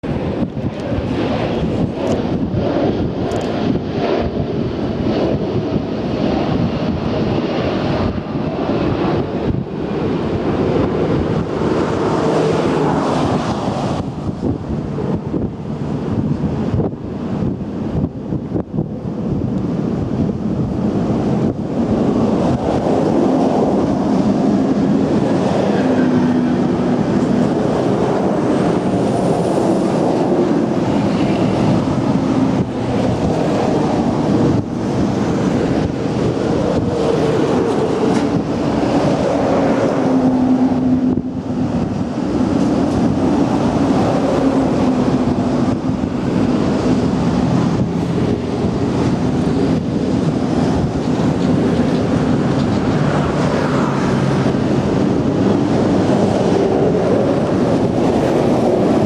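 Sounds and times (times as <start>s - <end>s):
heavy road traffic rumble: 0.0s - 59.0s.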